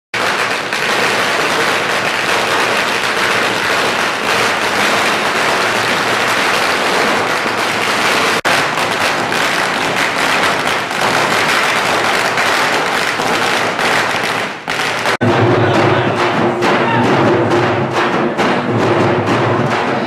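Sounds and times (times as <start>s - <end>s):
firecrackers crackling: 0.1s - 20.0s.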